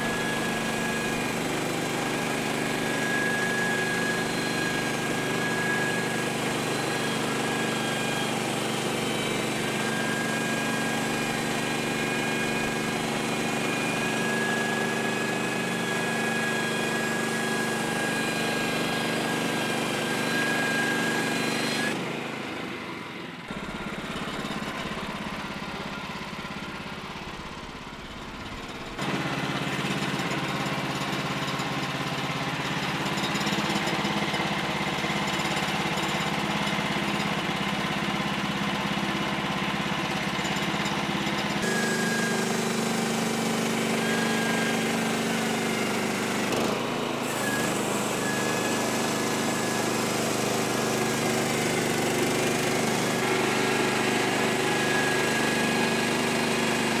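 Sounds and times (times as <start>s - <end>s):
saw blade whining: 0.0s - 57.0s.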